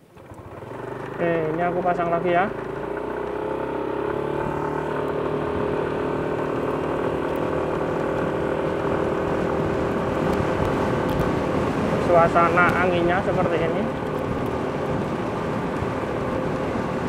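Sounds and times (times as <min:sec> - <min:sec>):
road noise: 0:00.0 - 0:17.0
vehicle engine idling: 0:00.0 - 0:17.0
wind: 0:00.0 - 0:17.0.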